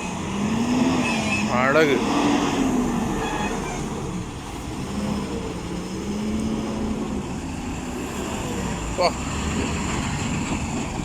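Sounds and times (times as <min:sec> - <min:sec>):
lorry diesel engine pulling uphill: 0:00.0 - 0:11.0.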